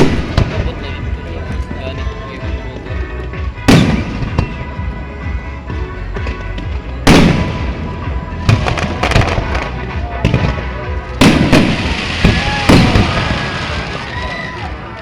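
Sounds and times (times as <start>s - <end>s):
fireworks bursting: 0.0s - 2.6s, 3.4s - 15.0s
music playing: 0.0s - 15.0s.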